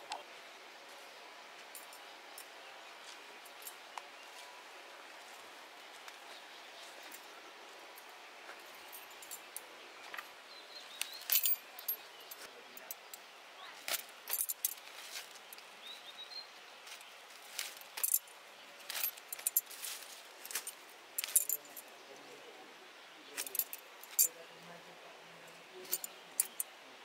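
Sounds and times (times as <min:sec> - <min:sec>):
leaves rustling: 0:02.9 - 0:26.6.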